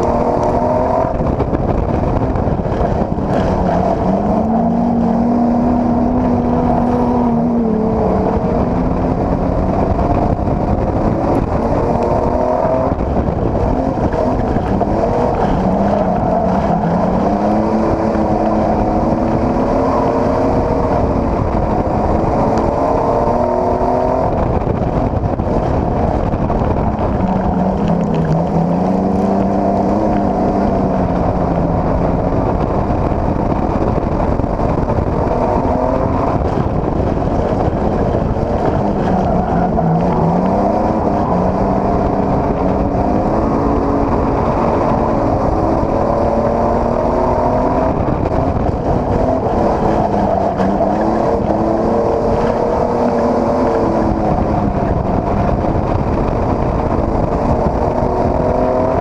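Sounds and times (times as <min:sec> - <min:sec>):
mechanical and road noise rumble: 0:00.0 - 0:59.0
race car engine racing: 0:00.0 - 0:59.0.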